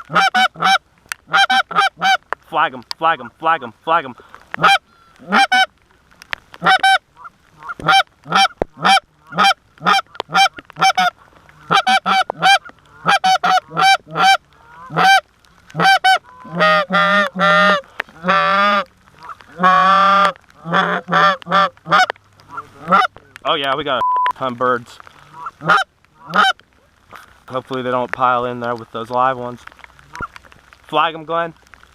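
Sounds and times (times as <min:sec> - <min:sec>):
geese honking and clucking: 0:00.0 - 0:05.8, 0:06.5 - 0:24.0, 0:25.1 - 0:27.2, 0:29.6 - 0:30.5.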